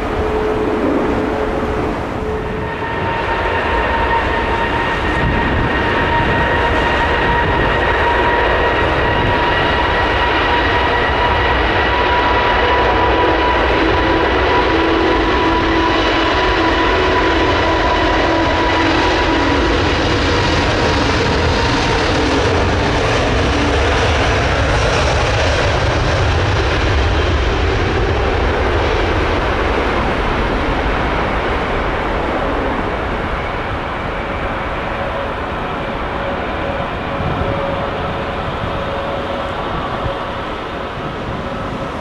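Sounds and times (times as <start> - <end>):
jet engine whine: 0.0 - 42.0
jet engines rumbling: 0.0 - 42.0.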